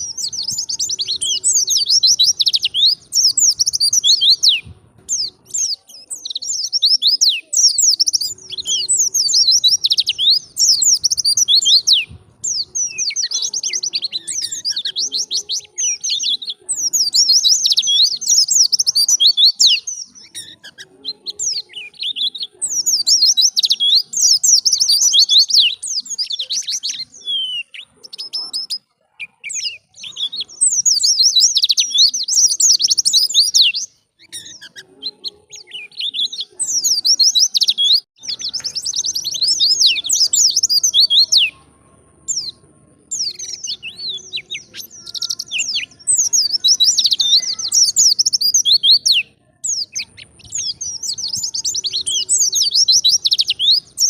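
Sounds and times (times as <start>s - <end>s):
bird twittering song: 0.0s - 54.0s.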